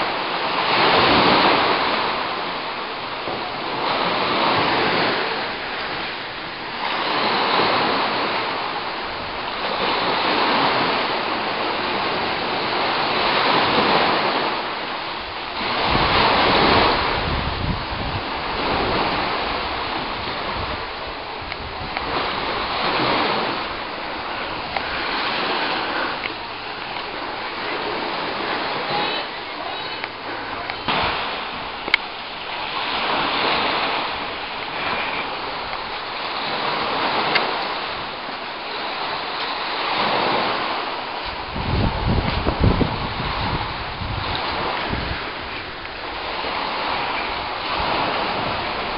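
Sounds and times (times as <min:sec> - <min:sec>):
choppy water rushing: 0:00.0 - 0:48.9
wind rumbling on microphone: 0:00.0 - 0:48.9.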